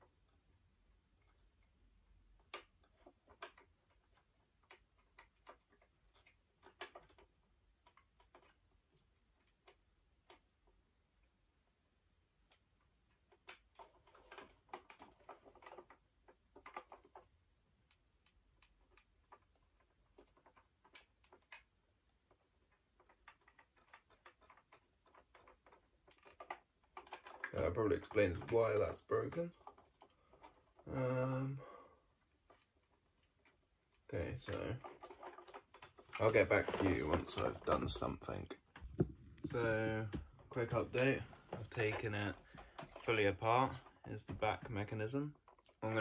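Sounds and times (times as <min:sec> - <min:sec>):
plastic parts clicking and rattling: 0:01.1 - 0:11.4, 0:12.3 - 0:30.9, 0:32.0 - 0:46.0.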